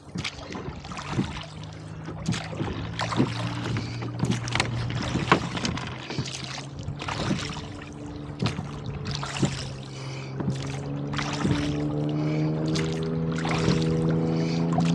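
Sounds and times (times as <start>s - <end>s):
oars knocking in oarlocks: 0.0s - 14.9s
water splashing: 0.0s - 14.9s.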